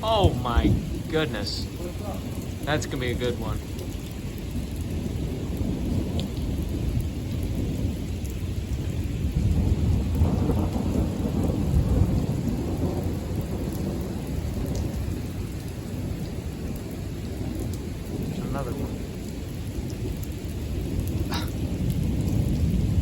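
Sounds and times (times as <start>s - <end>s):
steady rain: 0.0s - 23.0s
thunder rumbling: 0.0s - 23.0s.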